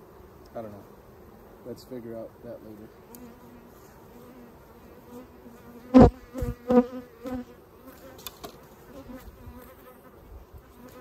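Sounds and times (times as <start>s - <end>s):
bees buzzing: 0.0s - 11.0s
loud bee buzzes: 0.0s - 11.0s.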